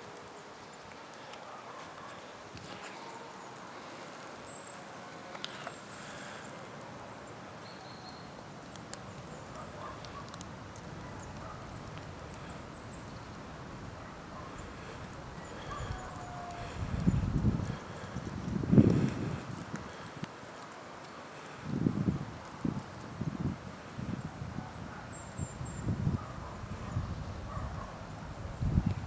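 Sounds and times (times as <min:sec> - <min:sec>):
faint rustling hiss: 0:00.0 - 0:24.5.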